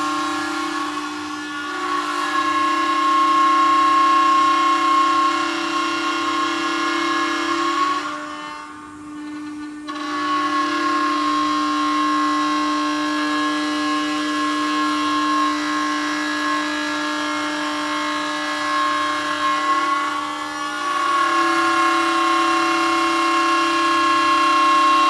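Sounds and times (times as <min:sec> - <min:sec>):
router spindle whining cutting wood: 0:00.0 - 0:25.0.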